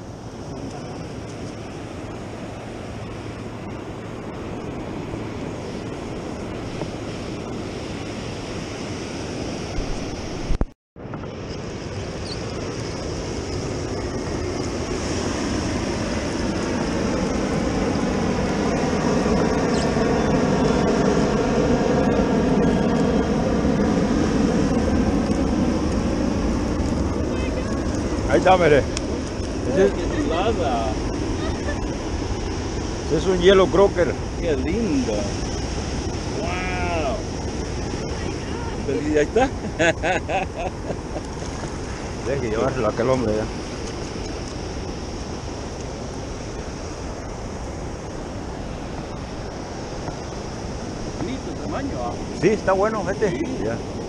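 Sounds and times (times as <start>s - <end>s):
ocean surf breaking: 0.0s - 54.0s
wind on microphone: 0.0s - 54.0s.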